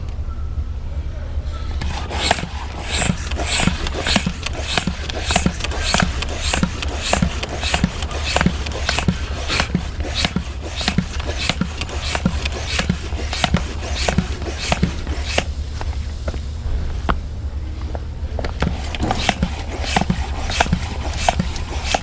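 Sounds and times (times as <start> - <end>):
hand pump strokes with air rush: 1.8 - 16.5, 18.4 - 22.0.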